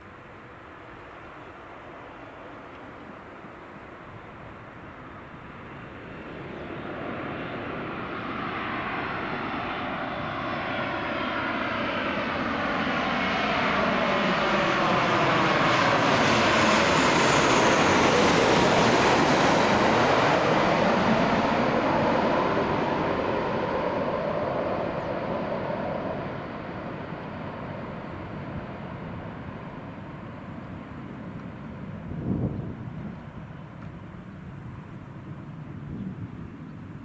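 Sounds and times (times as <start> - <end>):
aircraft engines passing: 0.0 - 37.0.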